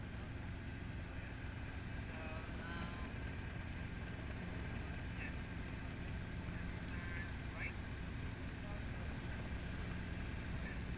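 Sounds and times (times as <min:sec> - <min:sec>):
helicopter engine and rotors: 0:00.0 - 0:10.9.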